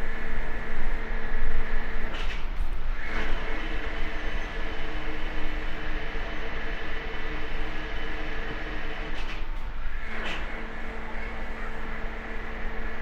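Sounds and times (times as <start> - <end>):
hydraulic machine humming: 0.0 - 13.0.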